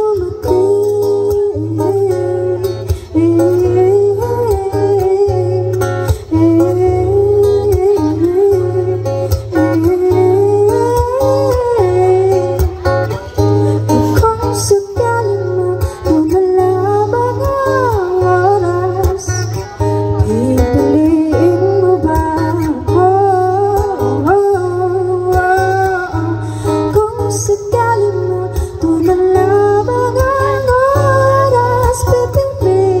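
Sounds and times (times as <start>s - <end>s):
acoustic guitar strumming: 0.0s - 33.0s
woman singing into microphone: 0.0s - 33.0s.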